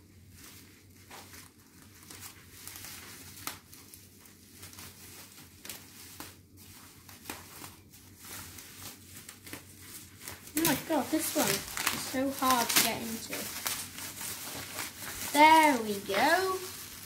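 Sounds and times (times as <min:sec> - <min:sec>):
plastic packaging crinkling: 0:00.2 - 0:17.0.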